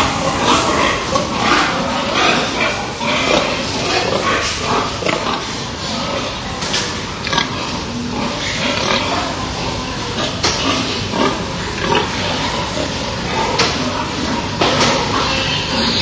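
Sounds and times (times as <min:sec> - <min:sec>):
pigs calling: 0:00.0 - 0:16.0.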